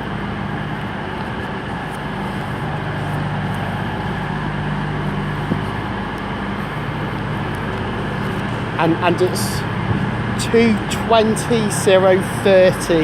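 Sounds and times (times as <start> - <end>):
diesel train engine idling: 0.0 - 13.0.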